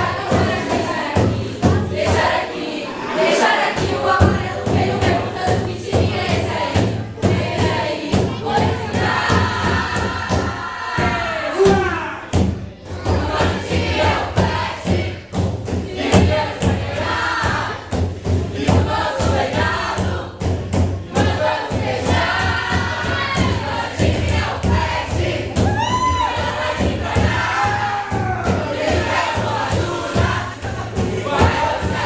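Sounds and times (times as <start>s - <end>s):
driving drum beat: 0.0s - 2.5s, 3.5s - 32.0s
many voices singing together: 0.0s - 12.2s, 12.8s - 32.0s.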